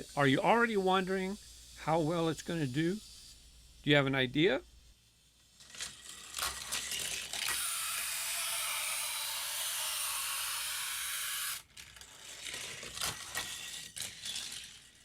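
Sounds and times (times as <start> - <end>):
toy car rolling on plastic track: 0.0 - 15.0.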